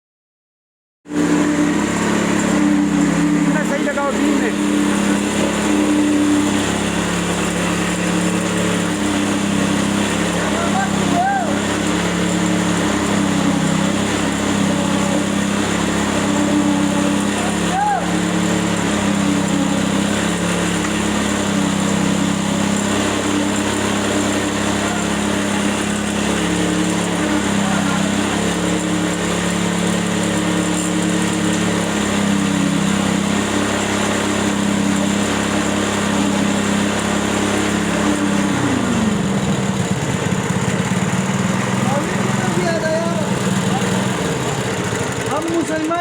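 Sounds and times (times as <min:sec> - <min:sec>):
small engine running: 0:01.1 - 0:46.0.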